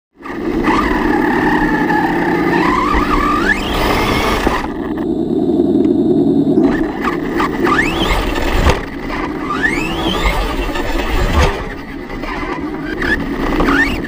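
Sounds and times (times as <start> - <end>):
rough engine-like drone: 0.1 - 14.0
rising whine of toy truck: 0.2 - 14.0.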